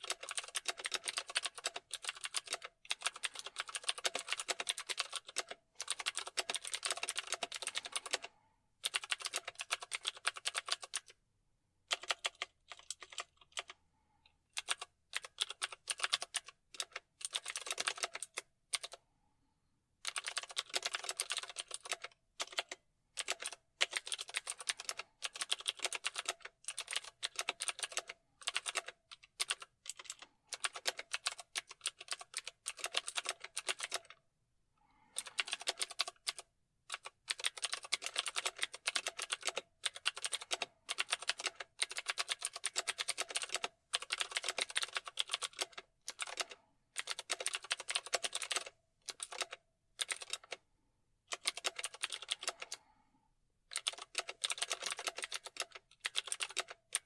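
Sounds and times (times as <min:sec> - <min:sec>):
keyboard typing: 0:00.0 - 0:11.2, 0:11.9 - 0:13.8, 0:14.5 - 0:19.0, 0:20.0 - 0:34.2, 0:35.1 - 0:50.6, 0:51.3 - 0:52.9, 0:53.7 - 0:57.0.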